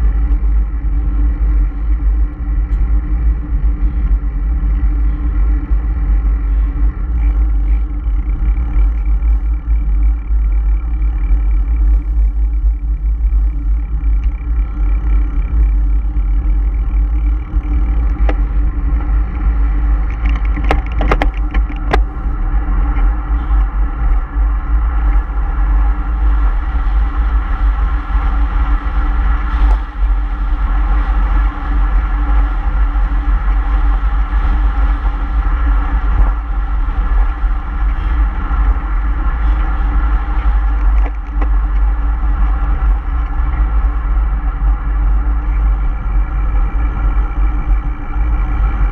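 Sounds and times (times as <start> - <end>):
vehicle engine hum: 0.0 - 48.9.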